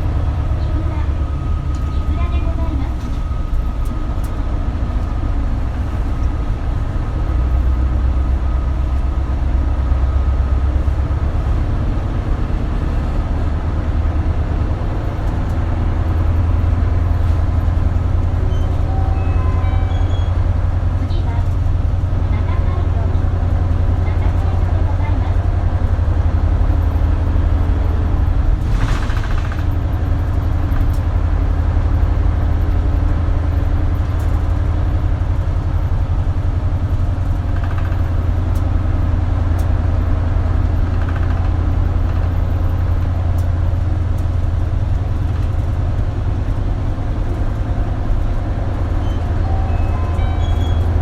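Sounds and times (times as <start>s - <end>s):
bus diesel engine drone: 0.0s - 51.0s.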